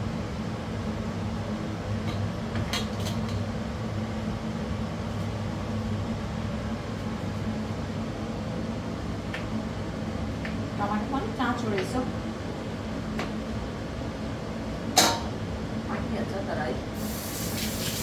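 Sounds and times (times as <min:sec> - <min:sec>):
range hood fan humming: 0:00.0 - 0:18.0.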